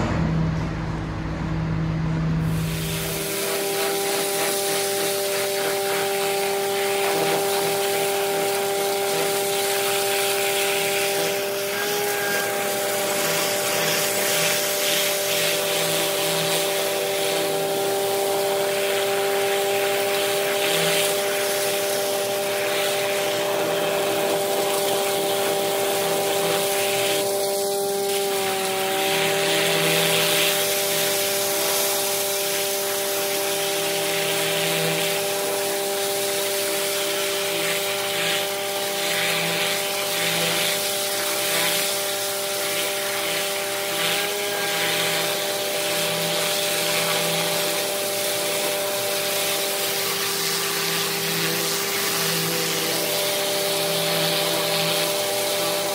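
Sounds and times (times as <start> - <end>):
pump machinery whine: 0.0 - 55.9
high-pressure water hiss: 2.4 - 55.9.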